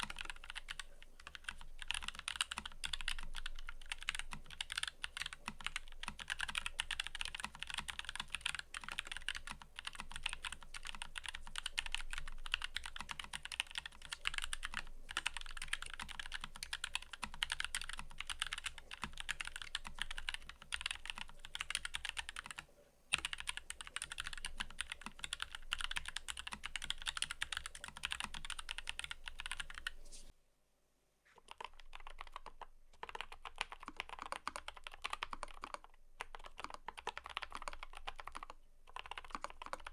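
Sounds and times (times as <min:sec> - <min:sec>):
mechanical keyboard typing: 0:00.0 - 0:30.0, 0:31.5 - 0:39.9.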